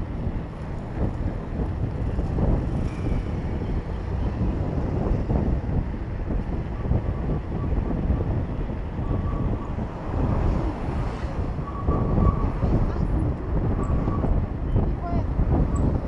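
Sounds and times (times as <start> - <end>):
traffic rumble: 0.0 - 16.0
wind buffeting microphone: 0.0 - 16.0.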